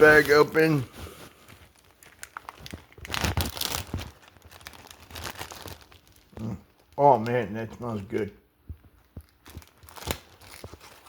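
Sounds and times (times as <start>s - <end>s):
plastic bag crinkling: 0.0s - 8.3s, 9.0s - 11.0s.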